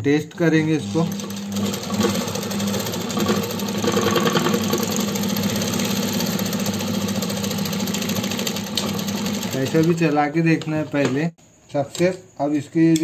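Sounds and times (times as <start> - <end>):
sewing machine stitching: 0.4 - 11.3.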